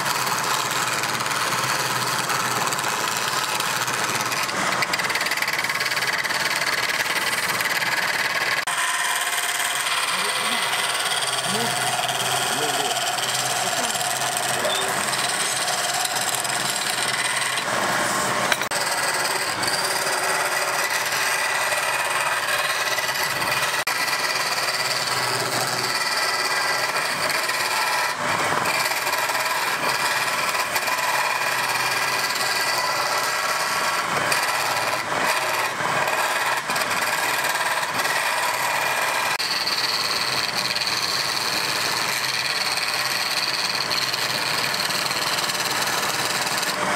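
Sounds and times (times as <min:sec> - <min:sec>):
lathe tool scraping wood: 0:00.0 - 0:46.9.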